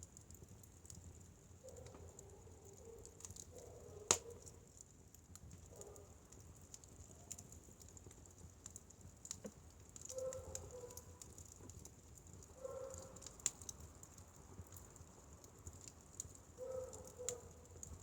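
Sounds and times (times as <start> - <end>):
firewood crackling and popping: 0.0 - 18.0.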